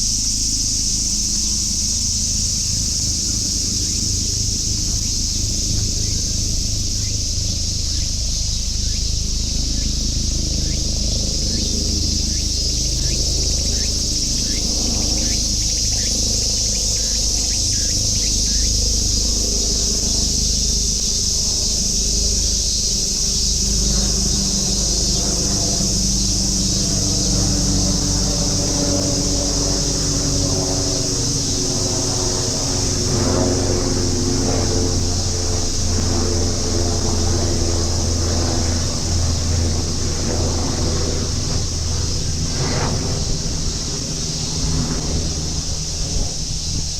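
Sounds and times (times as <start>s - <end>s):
cicadas droning: 0.0s - 46.9s
vehicle traffic hum: 1.2s - 46.9s.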